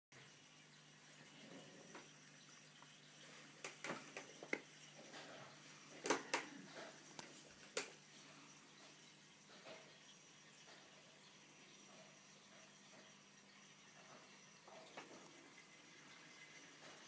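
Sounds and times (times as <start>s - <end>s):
aquarium filter humming: 0.2s - 17.0s.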